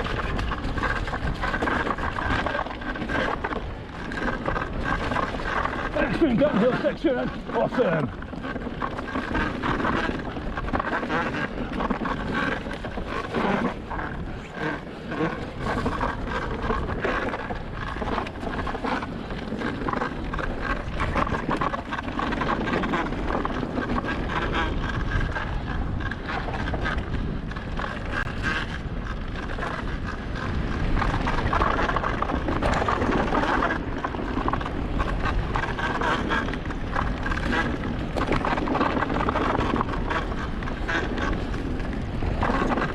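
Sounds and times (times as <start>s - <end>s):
bike clattering over bumps: 0.0s - 42.9s
bike tyres rolling over ground: 0.0s - 42.9s
wind buffeting microphone: 0.0s - 42.9s.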